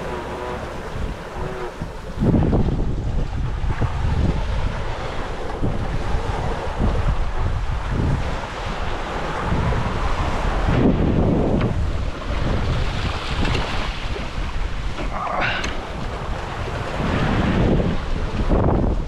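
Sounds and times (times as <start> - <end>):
rushing breaking seawater: 0.0 - 19.0
wind buffeting microphone: 0.0 - 19.0.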